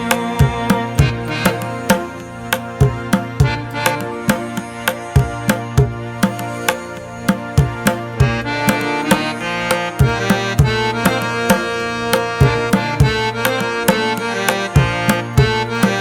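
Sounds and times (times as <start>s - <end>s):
hand drum beat: 0.0s - 16.0s
sustained melodic notes: 0.0s - 16.0s.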